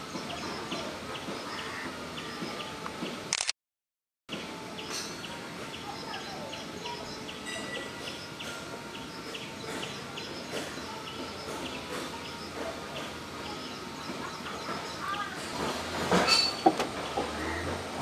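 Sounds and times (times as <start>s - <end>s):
birds calling: 0.0s - 3.3s, 4.3s - 15.7s, 16.3s - 18.0s.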